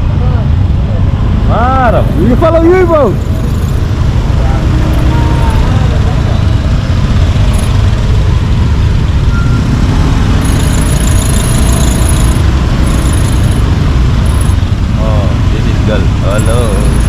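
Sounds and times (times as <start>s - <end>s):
motorcycle wind and road noise: 0.0s - 17.0s.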